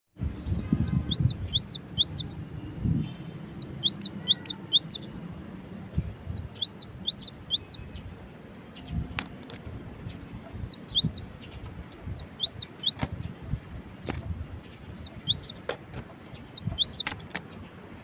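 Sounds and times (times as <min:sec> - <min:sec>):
bird singing repeated notes: 0:00.2 - 0:05.2, 0:06.2 - 0:18.0.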